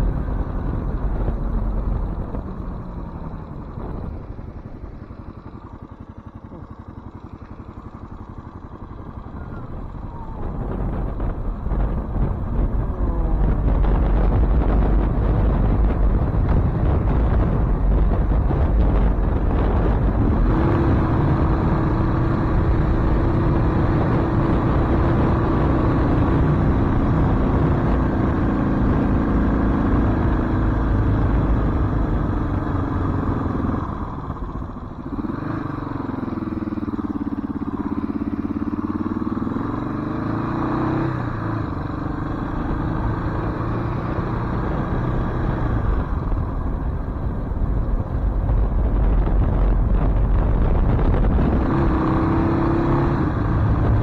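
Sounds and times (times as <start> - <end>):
wind rumble on microphone: 0.0 - 5.4, 8.0 - 54.0
motorcycle engine running: 0.0 - 54.0.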